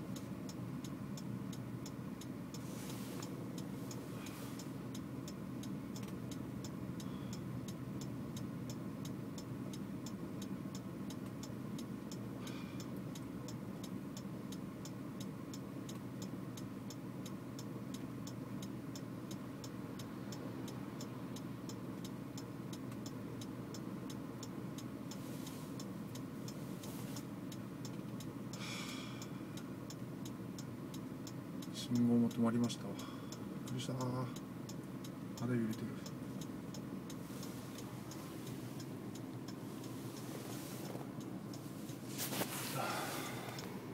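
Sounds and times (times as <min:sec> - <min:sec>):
car indicator ticking: 0:00.0 - 0:42.5, 0:43.3 - 0:43.9
car engine idling hum: 0:00.0 - 0:43.9.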